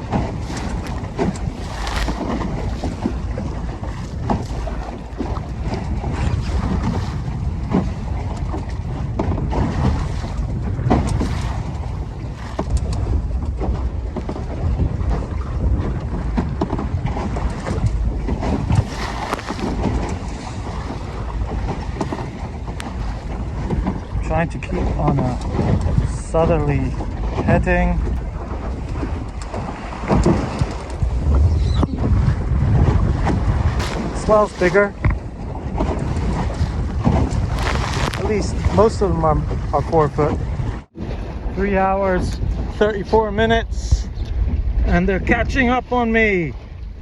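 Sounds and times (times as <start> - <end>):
waves splashing against boat: 0.0 - 43.3
water rushing along hull: 0.0 - 47.0
wind buffeting microphone: 0.0 - 47.0.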